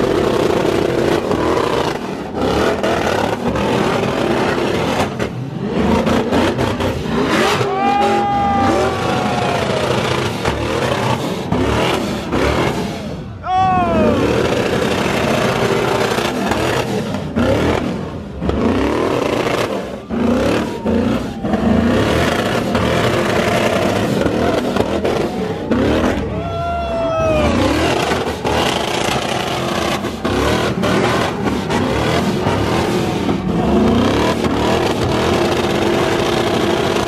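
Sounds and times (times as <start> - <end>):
car engines revving: 0.0 - 37.0
tyres on wet pavement: 0.0 - 37.0.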